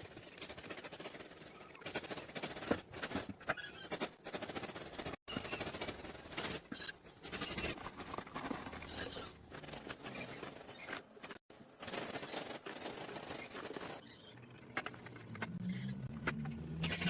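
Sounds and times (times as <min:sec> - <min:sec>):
hand scraping and scratching: 0:00.0 - 0:14.0.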